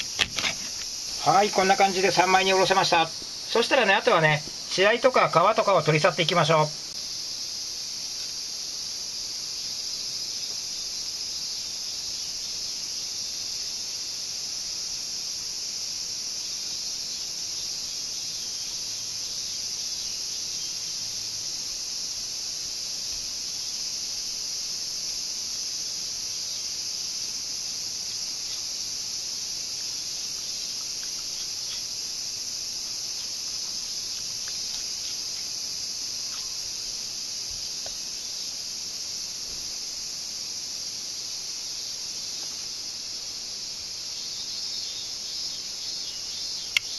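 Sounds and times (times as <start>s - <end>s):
insect chorus buzzing: 0.0s - 46.9s.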